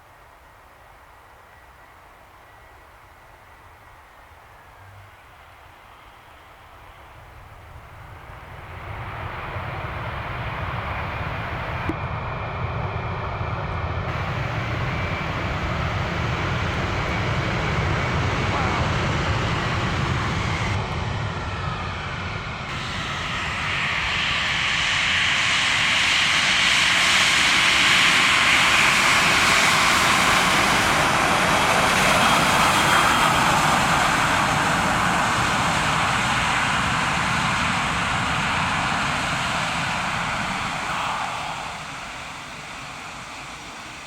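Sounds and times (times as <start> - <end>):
jet engines roaring: 3.4 - 44.0.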